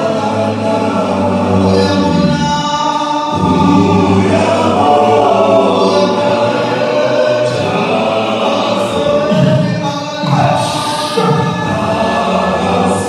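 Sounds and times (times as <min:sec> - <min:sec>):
male vocal group singing: 0:00.0 - 0:13.0.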